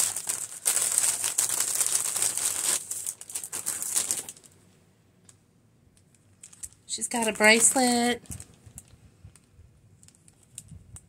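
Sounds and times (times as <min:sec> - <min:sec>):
cellophane bags crinkling: 0:00.0 - 0:04.6, 0:06.2 - 0:10.7.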